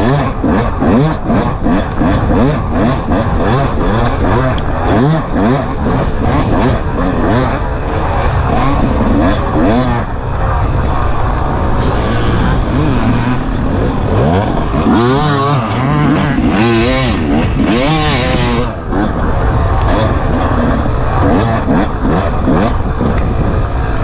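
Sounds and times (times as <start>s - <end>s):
dirt bike engine revving: 0.0s - 24.0s
wind noise: 0.0s - 24.0s.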